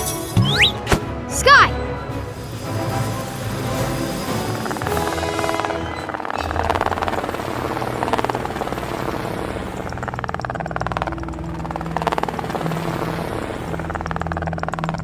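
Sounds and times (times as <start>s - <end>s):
helicopter rotor chop: 2.2s - 15.0s.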